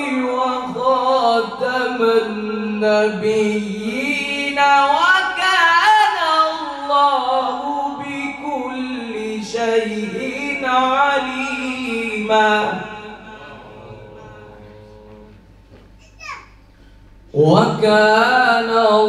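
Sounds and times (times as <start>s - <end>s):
man reciting in melodic chant: 0.0s - 15.4s, 17.3s - 19.0s.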